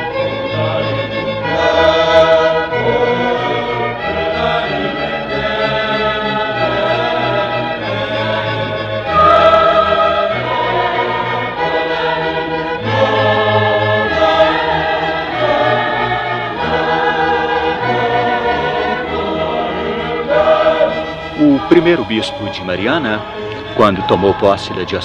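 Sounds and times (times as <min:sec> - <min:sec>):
choir singing: 0:00.0 - 0:25.0
strings accompaniment: 0:00.0 - 0:25.0.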